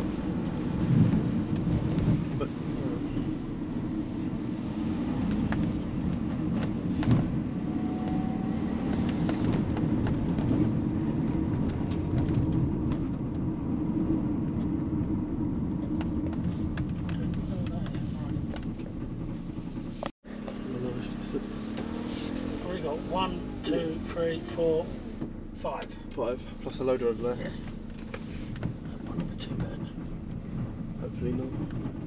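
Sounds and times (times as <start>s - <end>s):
road noise: 0.0s - 32.0s
van engine droning: 0.0s - 32.0s.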